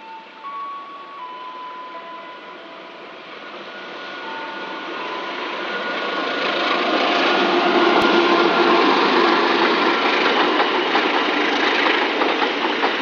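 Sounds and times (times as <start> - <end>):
diesel locomotive hauling train: 0.0 - 13.0.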